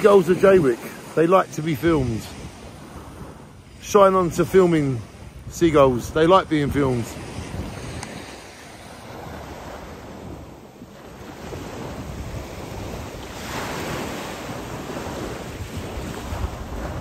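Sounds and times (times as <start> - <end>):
small waves breaking on beach: 0.0 - 17.0
wind buffeting microphone: 0.0 - 17.0.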